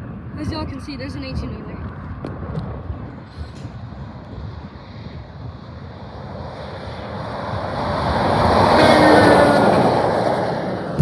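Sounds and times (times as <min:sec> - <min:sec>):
truck engine and tyre roar: 0:00.0 - 0:11.0
wind buffeting microphone: 0:00.0 - 0:11.0.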